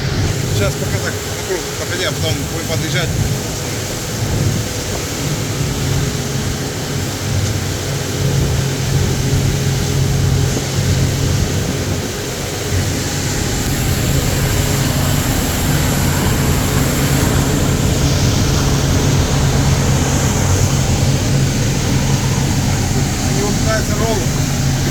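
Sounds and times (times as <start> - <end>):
rushing wind: 0.0 - 24.9
water noise: 0.0 - 24.9
watercraft engine humming: 0.0 - 24.9.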